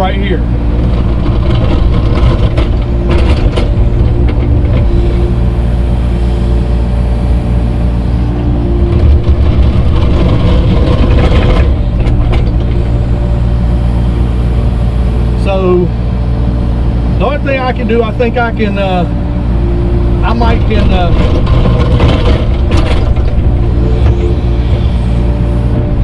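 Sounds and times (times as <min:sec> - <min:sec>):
grader engine running: 0:00.0 - 0:26.0.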